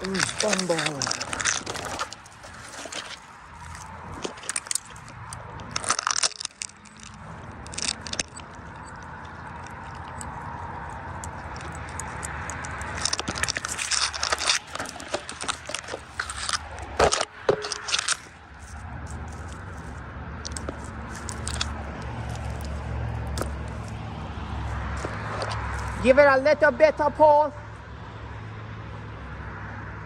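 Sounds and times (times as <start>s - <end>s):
branches and twigs snapping: 0.0s - 26.0s.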